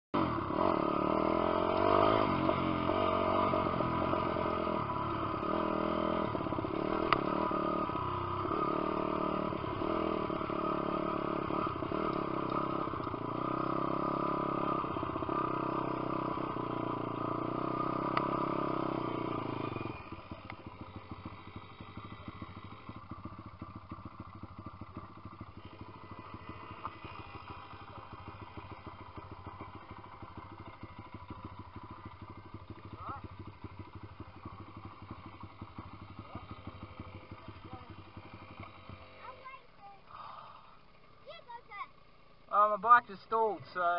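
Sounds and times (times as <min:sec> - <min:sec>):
motorcycle engine revving: 0:00.1 - 0:43.9.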